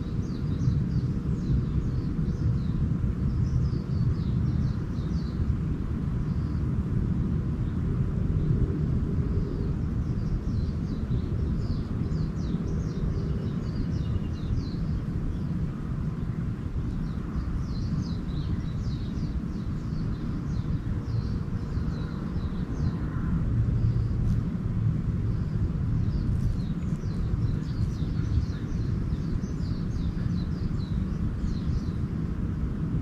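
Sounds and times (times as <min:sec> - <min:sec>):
small birds chirping: 0:00.0 - 0:06.8, 0:07.5 - 0:33.0.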